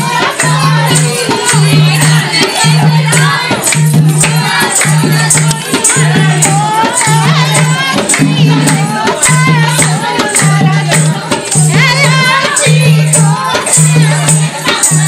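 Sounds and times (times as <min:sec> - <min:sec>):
percussion beat: 0:00.0 - 0:15.0.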